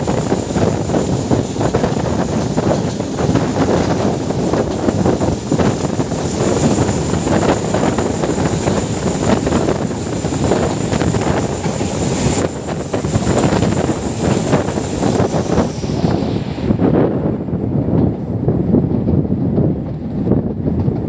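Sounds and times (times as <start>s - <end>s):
train clatter and rattling: 0.0s - 21.0s
train wheels rumbling on rails: 0.0s - 21.0s
wind buffeting microphone: 0.0s - 21.0s.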